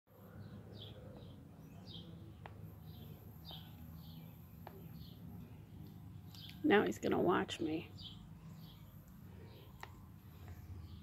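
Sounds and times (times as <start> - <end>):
low steady hum: 0.2 - 11.0
small bird chirping: 0.2 - 11.0.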